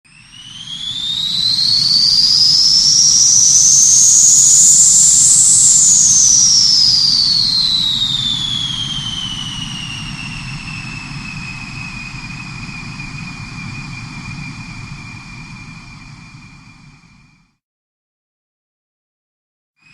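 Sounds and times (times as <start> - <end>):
jet turbine whine: 0.1 - 17.6.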